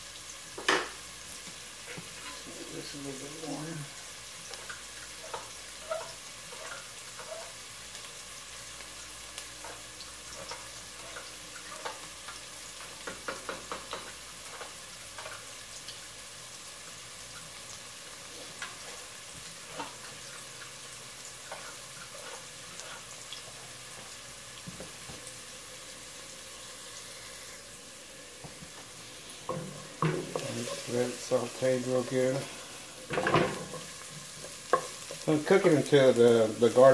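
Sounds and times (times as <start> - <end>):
onion sizzling in oil: 0.0 - 36.9.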